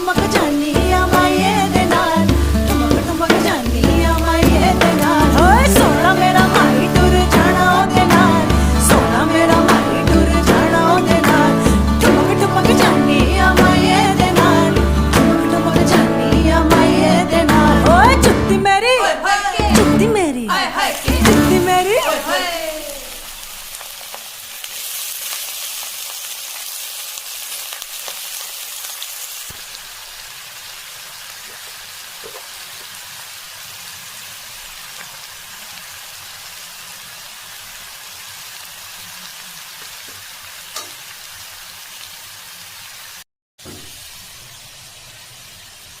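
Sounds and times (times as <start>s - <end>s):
food sizzling in hot oil: 0.0s - 18.4s, 20.5s - 46.0s.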